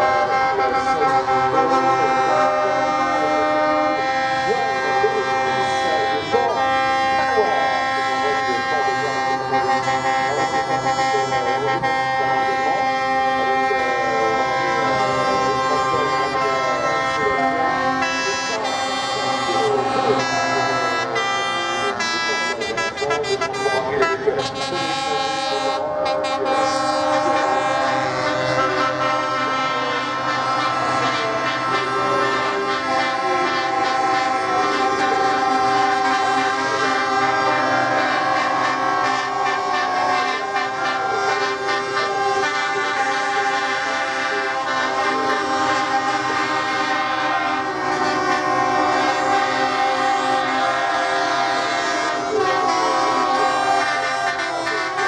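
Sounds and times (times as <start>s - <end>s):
truck air horns: 0.0s - 55.0s.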